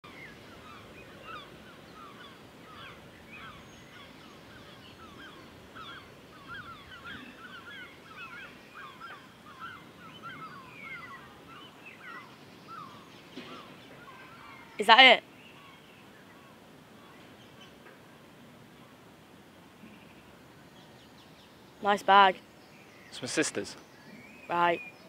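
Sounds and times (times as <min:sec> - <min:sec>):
birds chirping: 0:00.0 - 0:19.0, 0:19.7 - 0:25.0.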